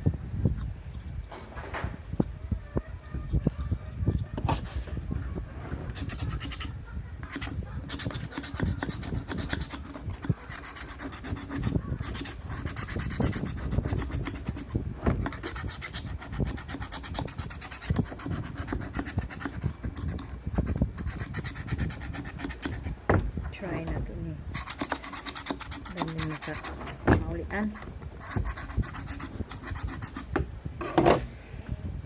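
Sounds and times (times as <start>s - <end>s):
scraping and rubbing pump parts: 3.4s - 31.3s.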